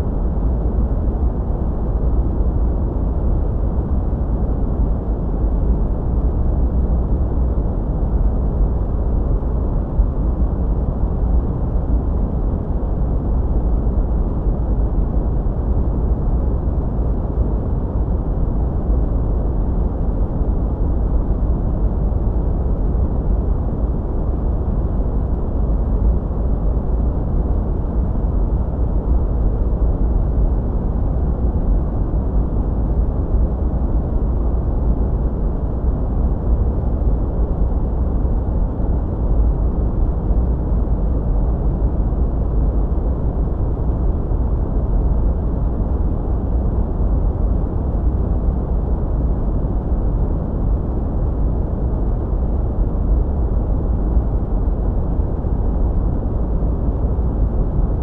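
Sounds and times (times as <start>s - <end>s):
deep even rumble noise: 0.0s - 58.0s.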